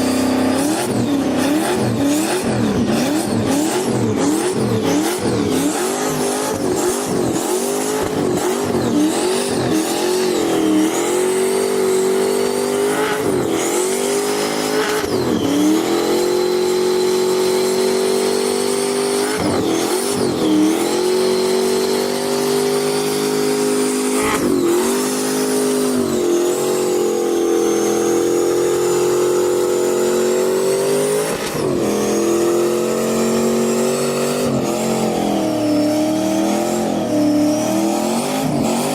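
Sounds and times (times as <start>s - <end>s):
engine revving hard: 0.0s - 38.9s.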